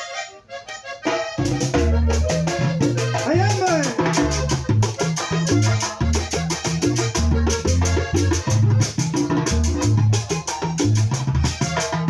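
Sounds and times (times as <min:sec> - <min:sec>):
button accordion: 0:00.0 - 0:12.0
bass line: 0:01.0 - 0:12.0
hand drum beating: 0:01.1 - 0:12.0.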